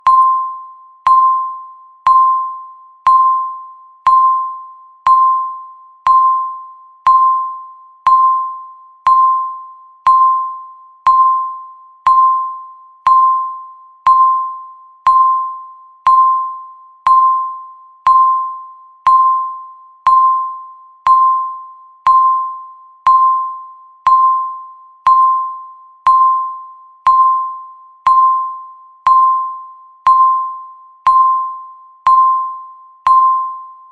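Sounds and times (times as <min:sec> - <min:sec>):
timer ticking with chime-like pings: 0:00.0 - 0:33.9.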